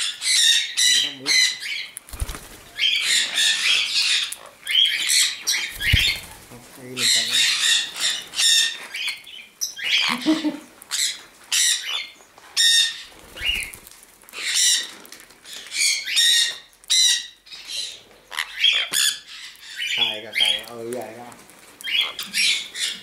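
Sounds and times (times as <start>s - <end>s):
parrots screeching: 0.0s - 20.8s, 21.8s - 23.0s.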